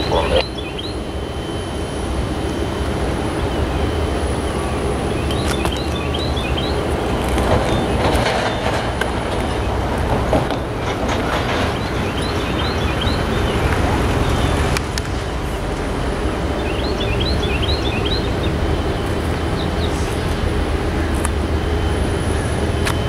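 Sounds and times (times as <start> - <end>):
distant diesel locomotive rumble: 0.0 - 23.0.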